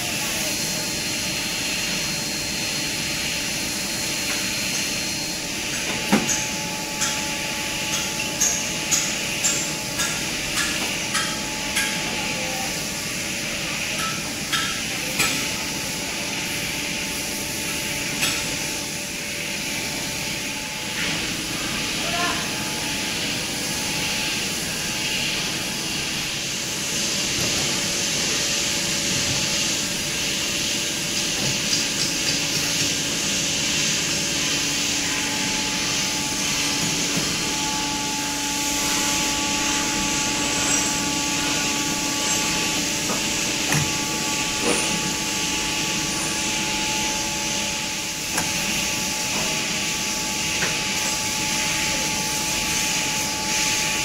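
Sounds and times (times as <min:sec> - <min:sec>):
faint machine hums: 0:00.0 - 0:54.0.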